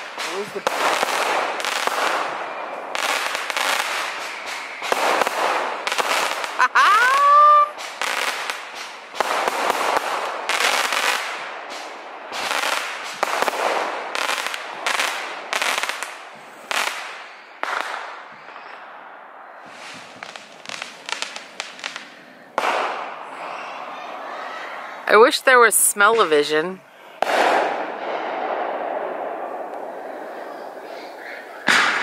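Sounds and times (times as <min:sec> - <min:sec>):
fireworks bangs and crackles: 0:00.0 - 0:23.7, 0:27.2 - 0:32.0.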